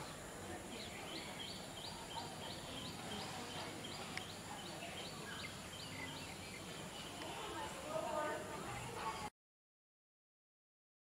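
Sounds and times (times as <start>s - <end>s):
faint background noise: 0.0s - 9.3s.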